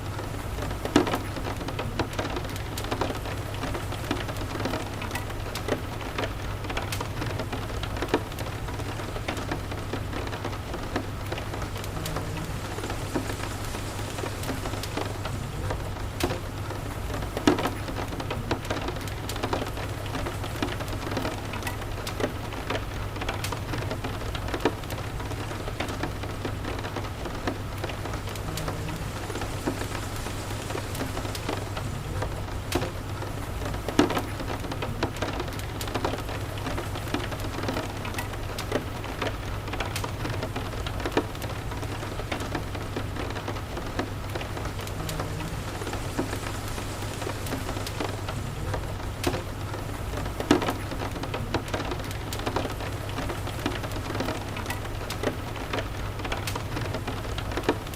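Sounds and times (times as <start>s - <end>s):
rain falling: 0.0s - 57.9s
wood fire crackling: 0.0s - 57.9s.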